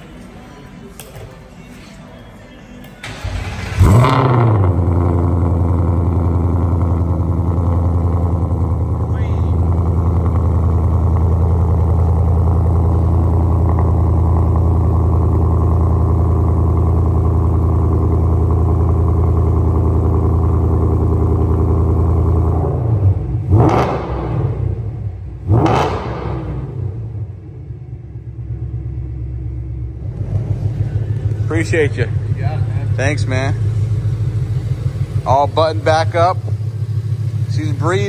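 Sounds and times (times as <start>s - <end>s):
car engine idling and revving: 3.0s - 38.0s.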